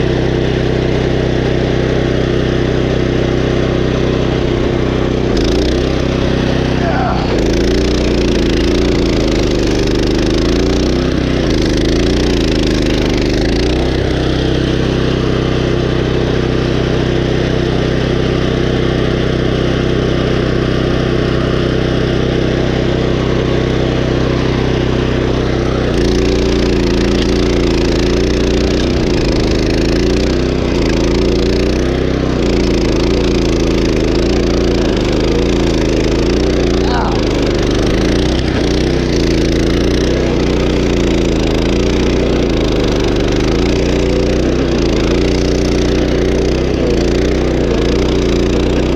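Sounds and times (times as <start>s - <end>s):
stump grinder engine running: 0.0s - 48.9s.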